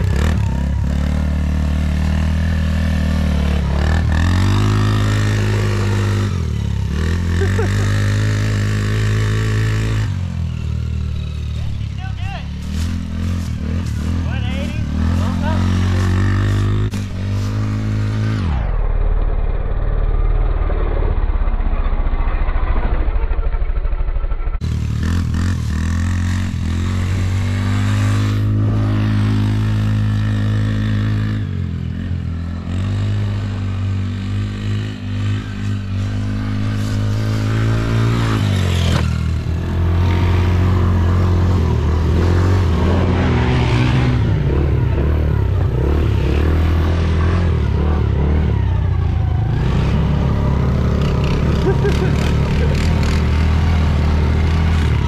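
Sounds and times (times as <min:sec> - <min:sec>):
quad bike engine revving: 0:00.0 - 0:18.9, 0:24.6 - 0:55.0.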